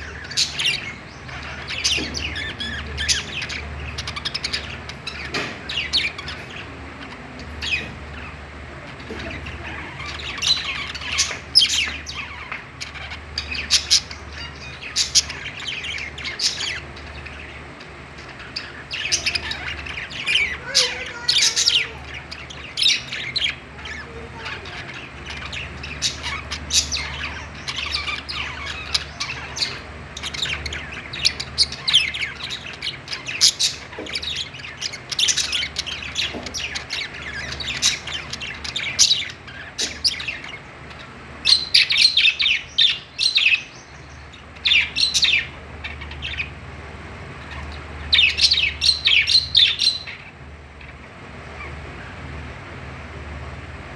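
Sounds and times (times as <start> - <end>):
budgerigars chirping and squawking: 0.0 - 53.6.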